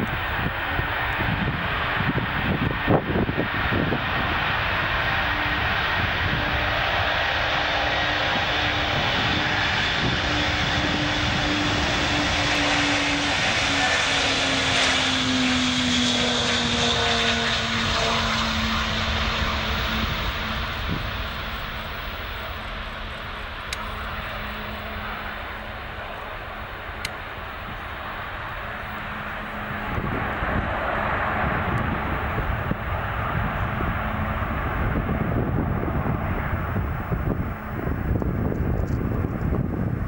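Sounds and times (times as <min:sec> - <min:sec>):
jet engines rushing: 0:00.0 - 0:40.0
low hum: 0:00.0 - 0:40.0.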